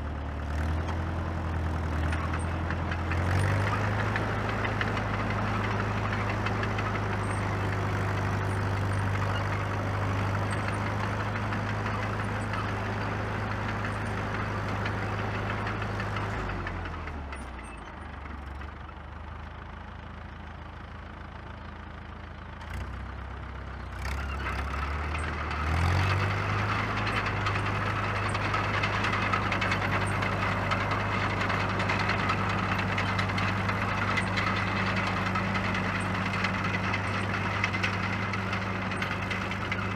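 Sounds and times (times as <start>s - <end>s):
crawler tractor diesel engine running: 0.0s - 39.9s.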